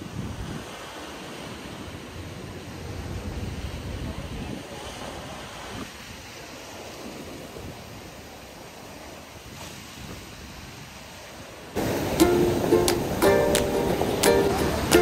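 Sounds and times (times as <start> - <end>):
sea surf washing on shore: 0.0 - 15.0
wind rumbling on microphone: 0.0 - 15.0.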